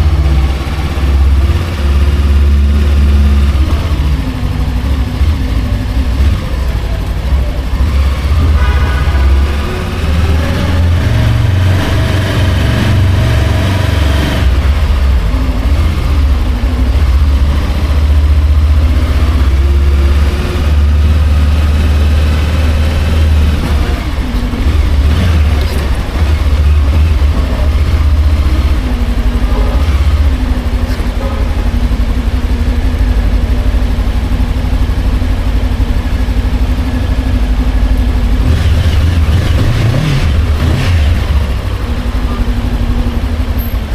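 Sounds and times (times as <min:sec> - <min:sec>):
motorcycle engine rumbling: 0:00.0 - 0:43.9.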